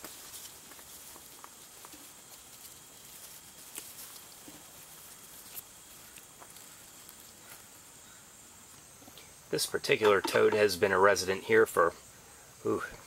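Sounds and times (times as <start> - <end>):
leaves rustling: 0.0 - 12.8
steady hiss: 0.0 - 13.0.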